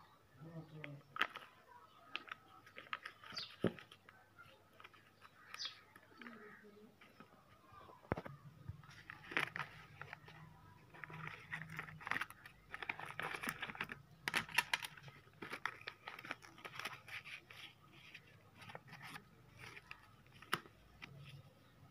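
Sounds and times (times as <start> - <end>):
paper box rustling and crinkling: 1.1 - 21.9.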